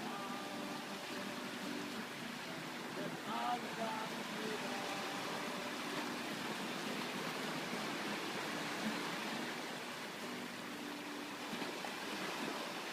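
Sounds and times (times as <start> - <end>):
sea surf rushing: 0.0 - 12.9.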